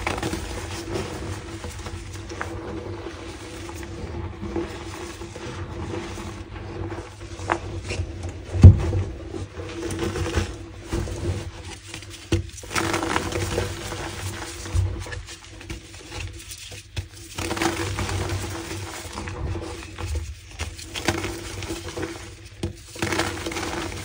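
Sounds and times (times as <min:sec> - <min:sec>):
chalk crunching and crumbling: 0:00.0 - 0:24.0.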